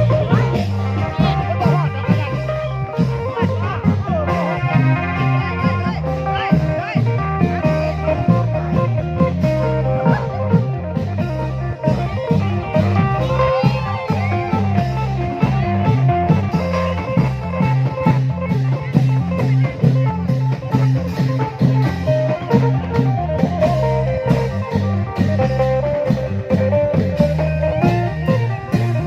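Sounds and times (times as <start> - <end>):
bass line: 0.0 - 29.0
long drums beating: 0.0 - 29.0
plucked electric string melody: 0.0 - 29.0.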